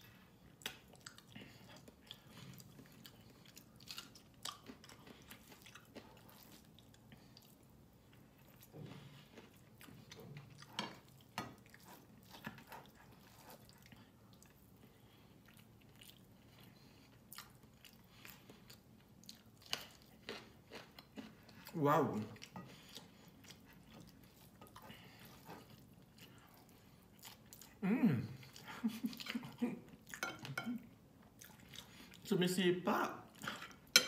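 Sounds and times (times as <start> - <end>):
person chewing food: 0.0 - 32.3.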